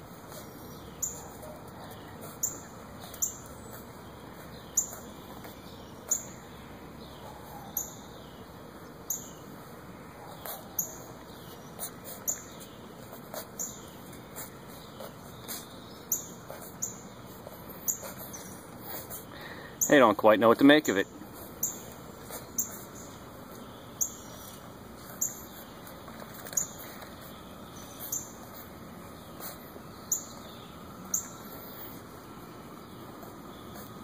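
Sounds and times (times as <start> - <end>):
bird chirping: 0.3 - 9.6, 10.2 - 34.0.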